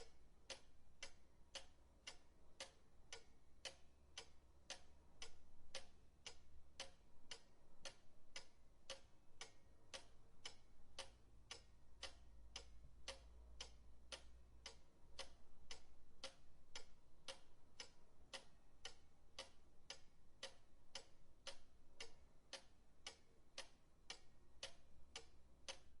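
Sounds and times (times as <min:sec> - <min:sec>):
pendulum clock ticking: 0:00.0 - 0:26.0.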